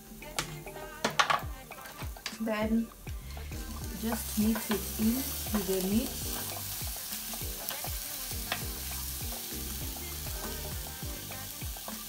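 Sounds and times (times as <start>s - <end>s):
food sizzling in pot: 0.0s - 12.0s.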